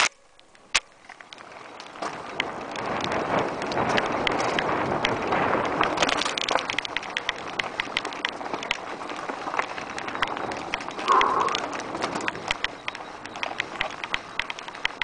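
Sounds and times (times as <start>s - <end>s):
bike rattling over rocks: 0.0s - 15.0s
bike tyres crunching over stones: 0.0s - 15.0s.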